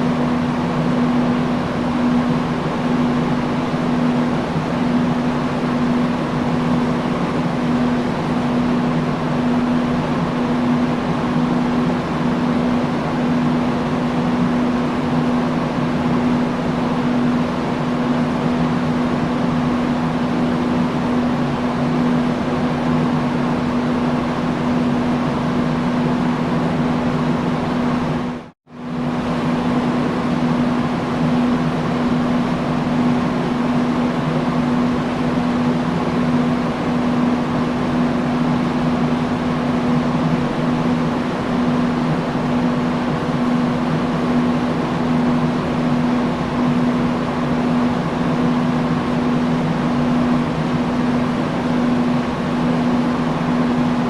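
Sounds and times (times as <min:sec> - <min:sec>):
industrial fan running: 0:00.0 - 0:54.0.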